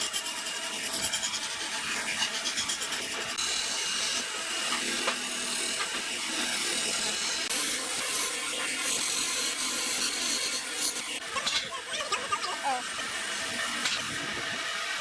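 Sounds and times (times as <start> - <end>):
tool working wood: 0.0 - 15.0.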